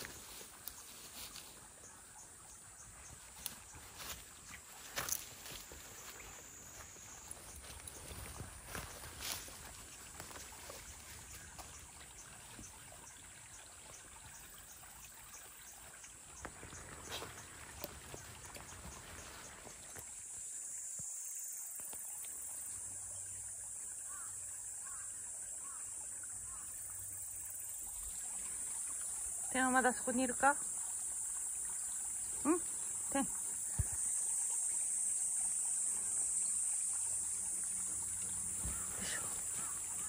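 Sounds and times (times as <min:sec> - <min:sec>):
insects droning: 0:00.0 - 0:40.0
water trickling: 0:00.0 - 0:40.0.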